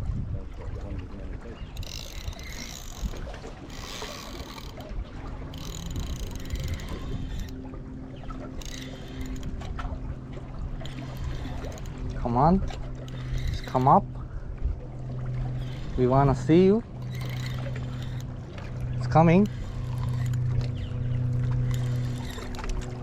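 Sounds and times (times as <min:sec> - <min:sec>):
water noise with hissing: 0:00.0 - 0:23.0
wind: 0:00.0 - 0:23.0
steady low hum: 0:01.1 - 0:23.0.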